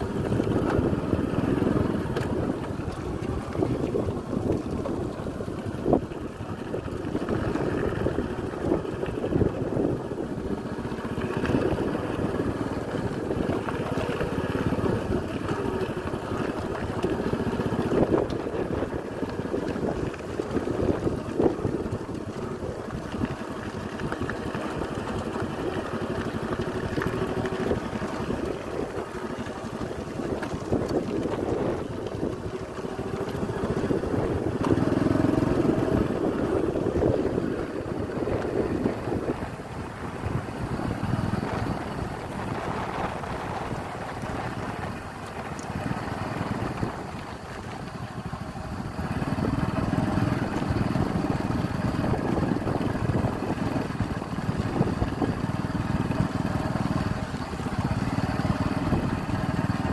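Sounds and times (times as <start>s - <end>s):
vehicle engine running: 0.0s - 59.9s
wind rushing over microphone: 0.0s - 59.9s.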